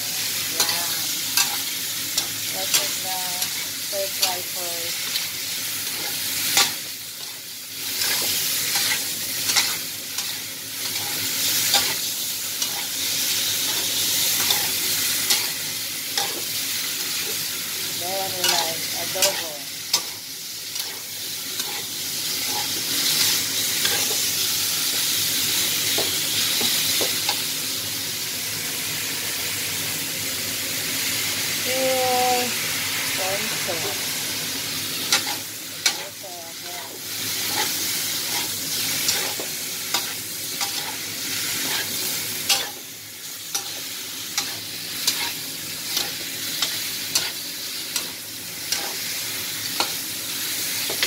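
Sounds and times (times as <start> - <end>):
meat sizzling in a pan: 0.0 - 51.0.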